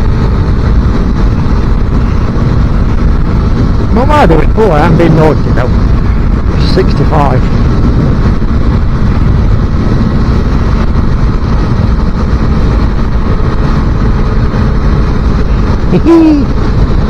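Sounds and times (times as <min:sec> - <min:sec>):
motorcycle engine hum: 0:00.0 - 0:17.0
wind and road noise: 0:00.0 - 0:17.0.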